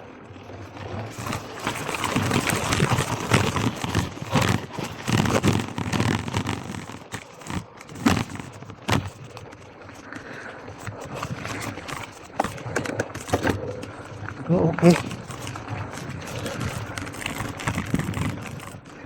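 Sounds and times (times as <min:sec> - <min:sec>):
bike tyres crunching on gravel: 0:00.0 - 0:19.0.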